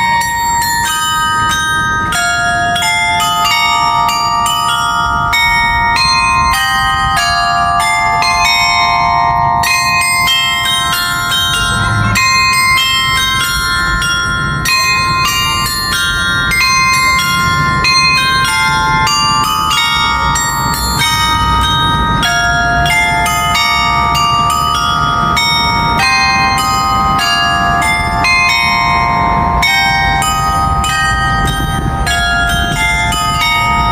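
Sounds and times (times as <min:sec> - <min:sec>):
carillon bells playing a melody: 0:00.0 - 0:33.9.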